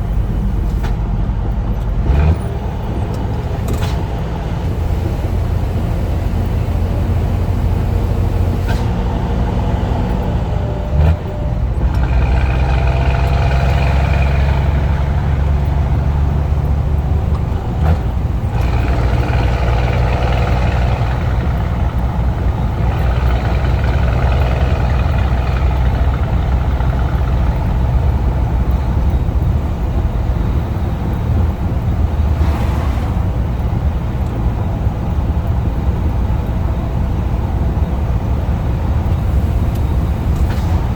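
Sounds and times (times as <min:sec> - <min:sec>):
truck diesel engine under load: 0:00.0 - 0:40.9.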